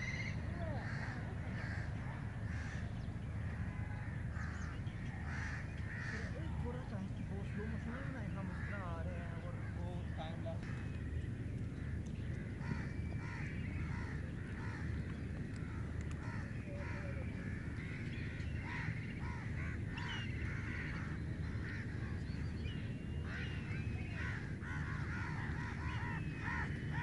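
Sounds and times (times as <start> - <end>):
birds cawing: 0.0 - 27.0
steady low rumble: 0.0 - 27.0.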